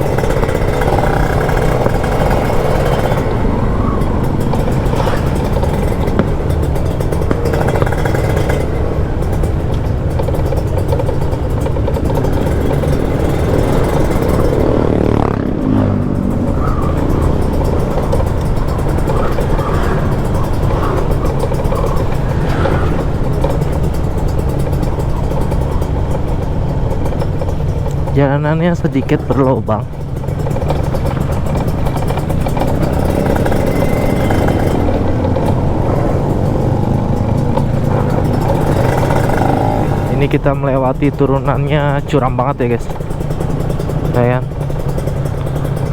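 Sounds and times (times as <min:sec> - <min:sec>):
two-stroke motorcycle engine running: 0:00.0 - 0:45.9.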